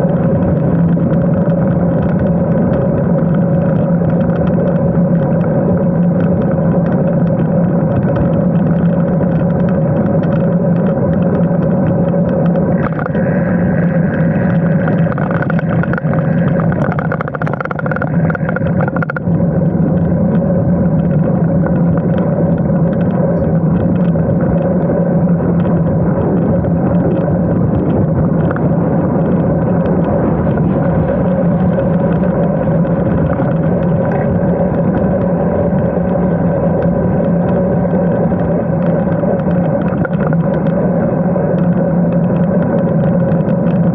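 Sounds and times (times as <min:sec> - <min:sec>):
wind noise on microphone: 0:00.0 - 0:43.9.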